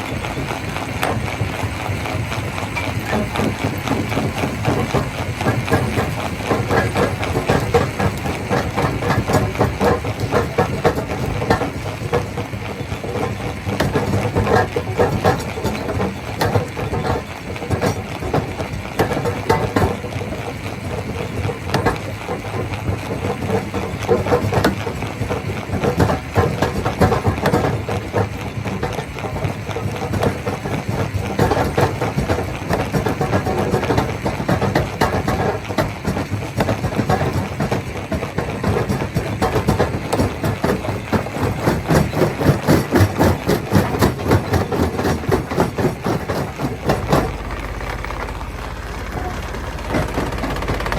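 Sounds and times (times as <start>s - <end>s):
rock crusher droning: 0.0s - 50.9s.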